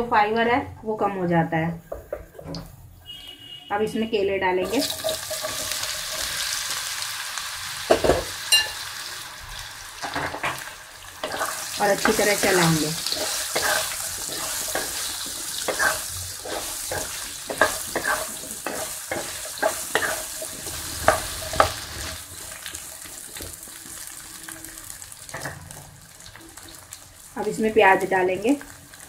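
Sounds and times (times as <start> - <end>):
banana slices sizzling in oil: 4.6 - 29.0.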